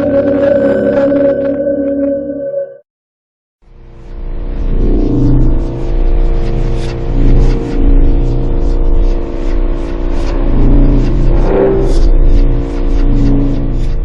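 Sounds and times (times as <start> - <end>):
low synthesized hum: 0.0 - 2.8, 3.7 - 14.0.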